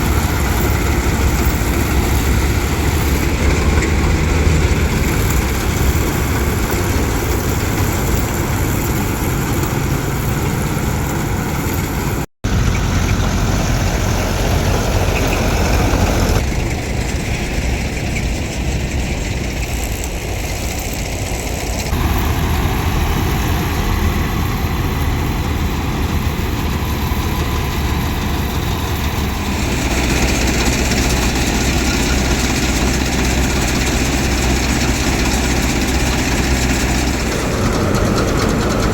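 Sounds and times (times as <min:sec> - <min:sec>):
diesel farm machinery running: 0:00.0 - 0:38.9.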